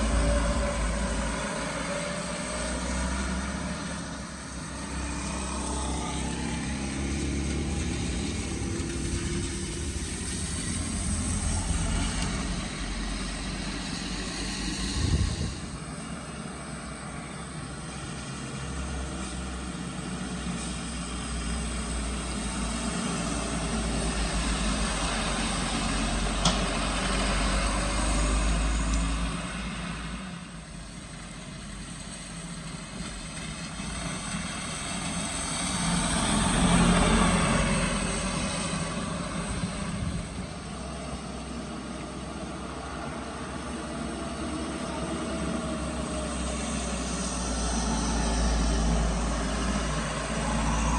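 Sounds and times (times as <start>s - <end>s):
traffic passing: 0.0s - 50.9s.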